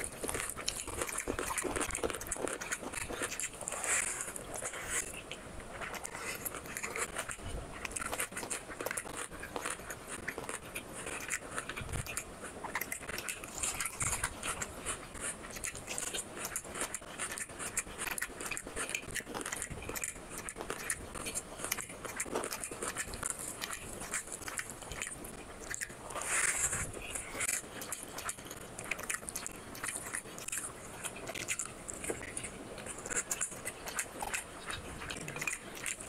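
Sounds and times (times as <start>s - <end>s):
chewing with mouth clicks: 0.0s - 36.0s.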